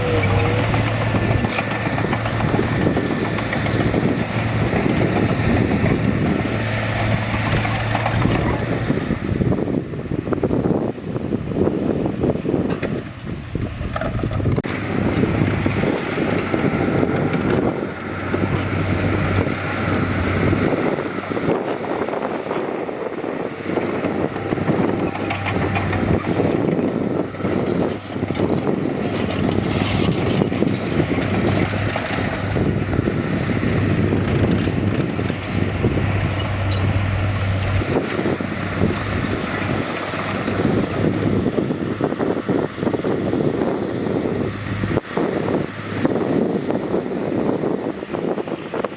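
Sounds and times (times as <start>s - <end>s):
heavy diesel machinery working: 0.0s - 48.9s
wind buffeting microphone: 0.0s - 48.9s.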